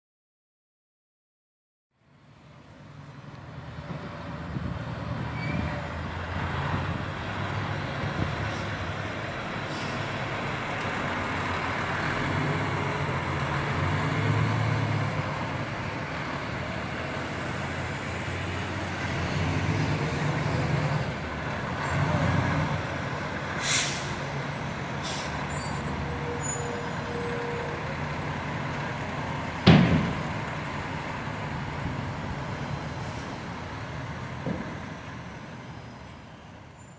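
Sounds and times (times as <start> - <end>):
diesel truck engine humming: 2.9 - 36.8.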